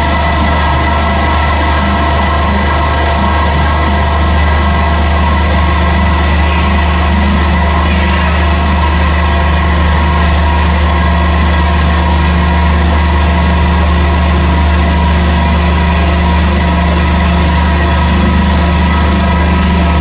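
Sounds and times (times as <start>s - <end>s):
cnc machine humming and whining: 0.0s - 20.0s.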